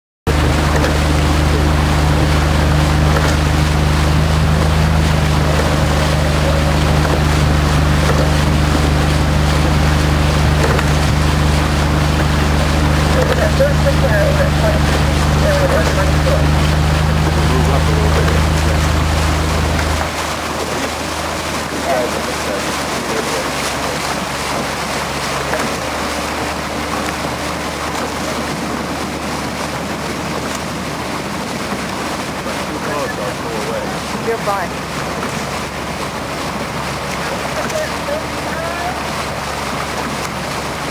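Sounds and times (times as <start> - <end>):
low hum: 0.3 - 40.9
outboard motor droning: 0.3 - 40.9
water rushing: 0.3 - 40.9.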